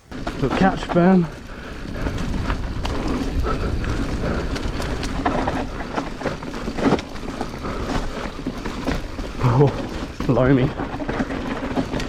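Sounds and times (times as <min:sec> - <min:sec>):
wind rush on microphone: 0:00.0 - 0:10.2
bike clattering over bumps: 0:00.0 - 0:12.0
tyre noise on dirt: 0:00.0 - 0:12.0.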